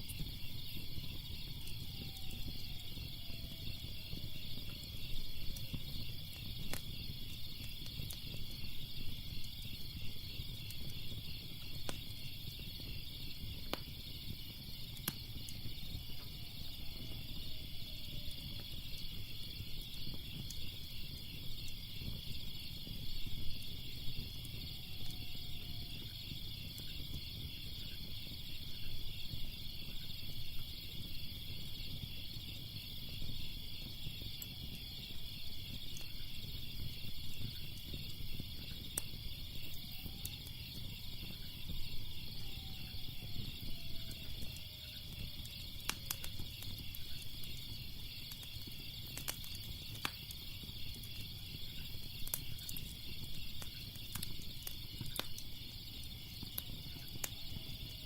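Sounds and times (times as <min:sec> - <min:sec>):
burning wood popping: 0:00.0 - 0:28.8, 0:30.1 - 0:58.0
crickets chirping: 0:00.0 - 0:58.0
fire crackling: 0:00.0 - 0:58.0.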